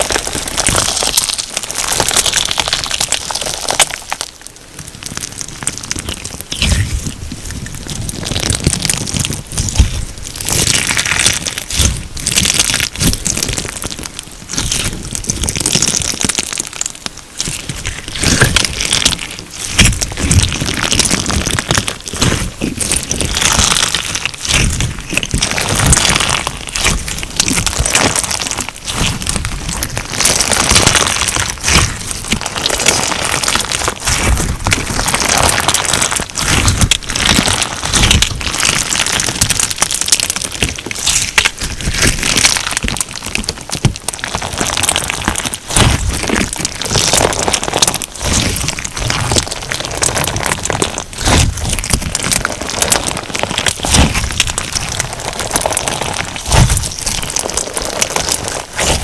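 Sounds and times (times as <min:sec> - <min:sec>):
crunchy slime crackling: 0:00.0 - 0:59.0.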